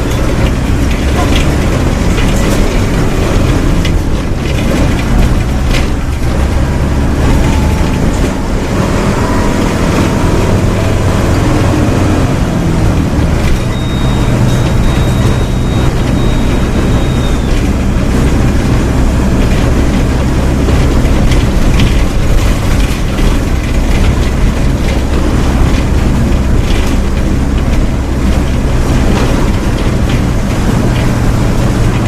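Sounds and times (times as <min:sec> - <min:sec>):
bus diesel engine at high revs: 0:00.0 - 0:32.0.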